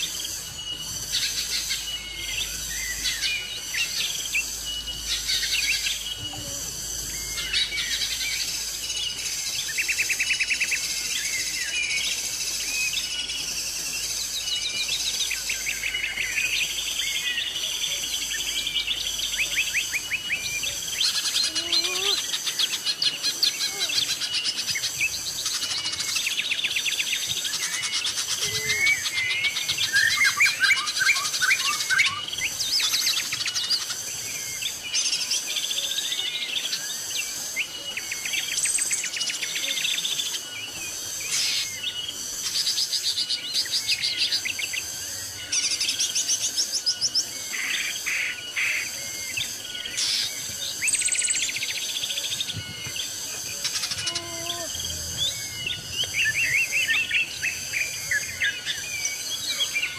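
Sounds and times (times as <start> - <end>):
birds chirping and trilling: 0.0 - 59.9
high-pitched insect drone: 0.0 - 59.9.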